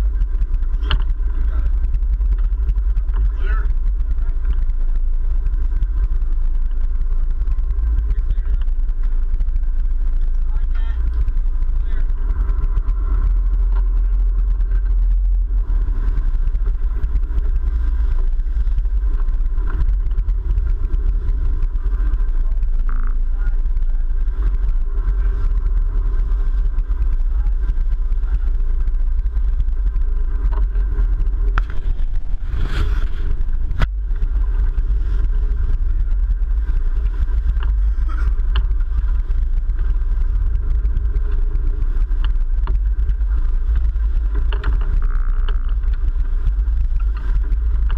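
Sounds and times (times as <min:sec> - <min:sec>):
boat engines low rumble: 0:00.0 - 0:47.9
water noise: 0:00.0 - 0:47.9
wind: 0:00.0 - 0:47.9.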